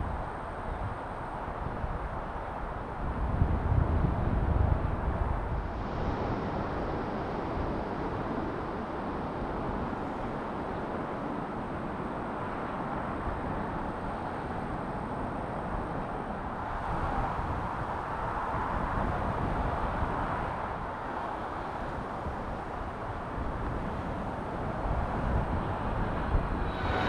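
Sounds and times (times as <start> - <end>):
jet engines roaring overhead: 5.0 - 27.0.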